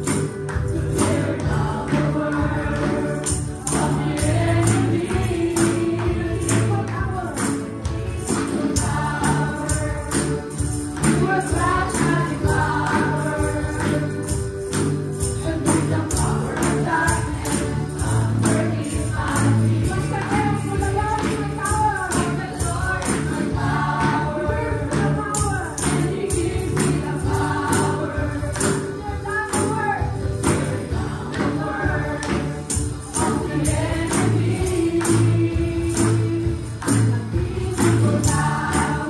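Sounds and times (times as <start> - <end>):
instrumental accompaniment with beat: 0.0 - 39.0
tambourines jingling: 0.0 - 39.0
women singing into microphones: 0.7 - 14.6, 15.2 - 39.0.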